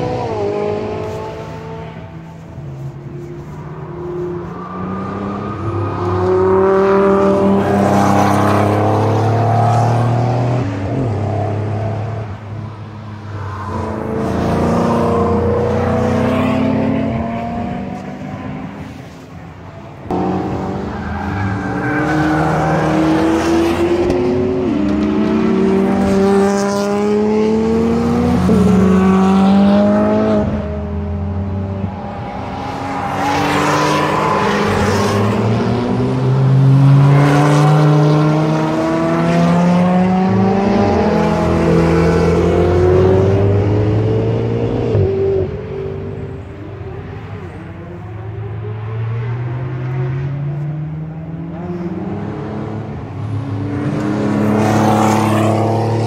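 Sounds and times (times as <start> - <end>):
sports cars accelerating hard: 0.0 - 19.1, 20.0 - 56.0.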